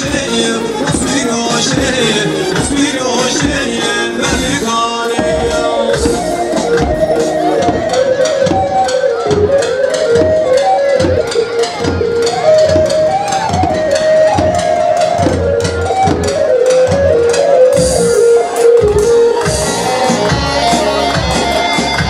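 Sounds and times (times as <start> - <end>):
steady drum beat: 0.0 - 22.0.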